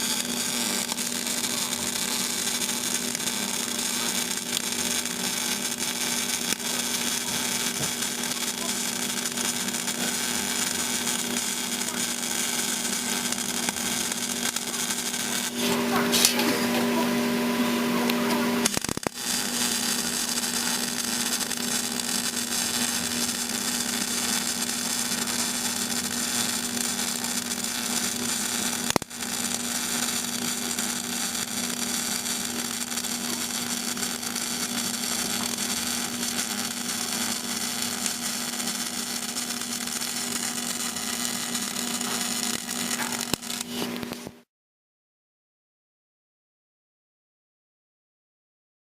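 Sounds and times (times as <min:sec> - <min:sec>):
steady hum: 0:00.0 - 0:44.3
welding arc crackling: 0:00.0 - 0:44.4.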